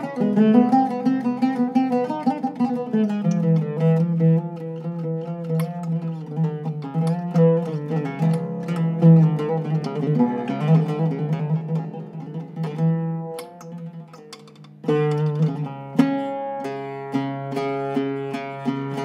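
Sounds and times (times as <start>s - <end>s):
oud plucked notes: 0.0s - 19.0s.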